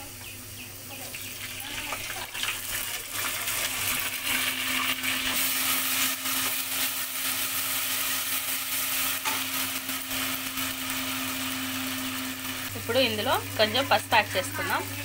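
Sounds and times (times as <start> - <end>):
paste sizzling in hot oil: 1.0 - 15.0.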